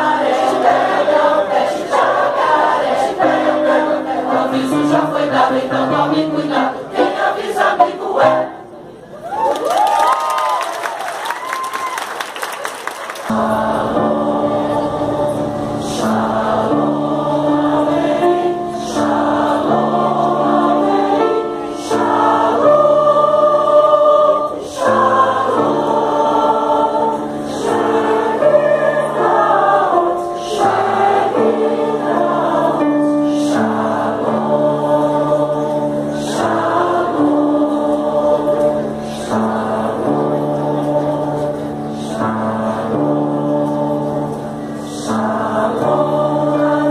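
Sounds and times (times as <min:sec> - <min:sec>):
mixed choir singing: 0:00.0 - 0:08.8, 0:13.2 - 0:46.9.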